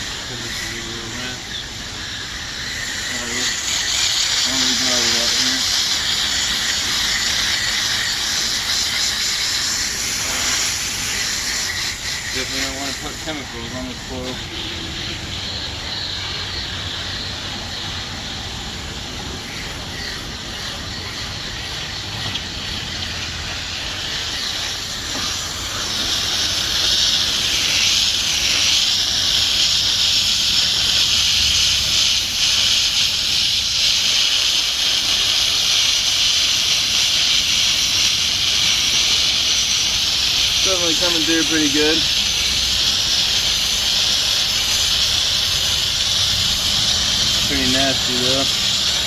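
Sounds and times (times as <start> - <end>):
water spray hissing: 0.0 - 49.0.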